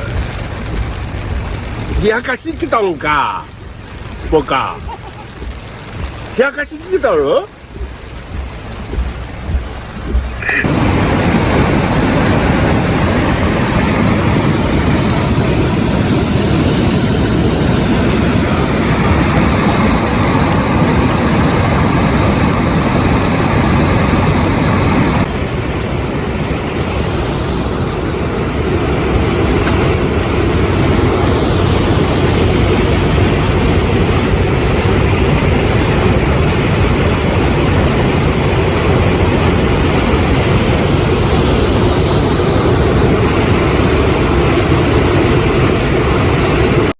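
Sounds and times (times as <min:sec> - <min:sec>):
flooded river roaring: 0:00.0 - 0:46.9.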